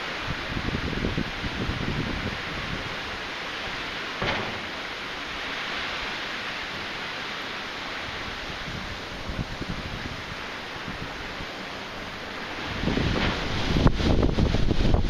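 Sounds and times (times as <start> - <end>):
wind buffeting microphone: 0.0 - 7.0, 8.0 - 15.0
typhoon wind rushing: 0.0 - 15.0.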